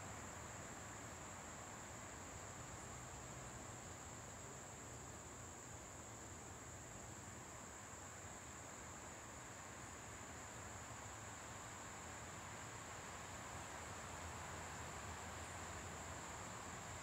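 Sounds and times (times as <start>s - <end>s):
high-pitched insect chorus: 0.2s - 17.0s.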